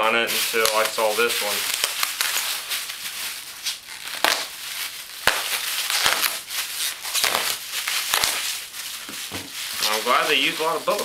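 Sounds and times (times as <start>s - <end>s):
bubble wrap crinkling: 0.0s - 11.0s
bubble wrap snapping: 0.0s - 11.0s.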